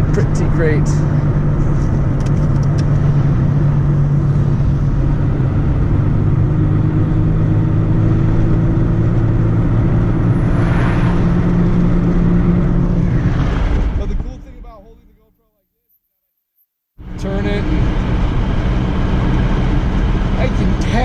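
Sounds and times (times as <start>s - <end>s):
car engine from inside cabin: 0.0s - 14.4s, 17.0s - 21.0s
road noise: 0.0s - 15.2s, 17.0s - 21.0s.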